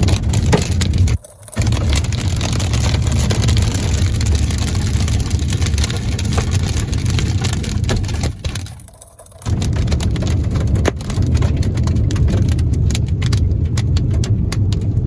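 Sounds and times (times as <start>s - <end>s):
crackles: 0.0s - 15.0s.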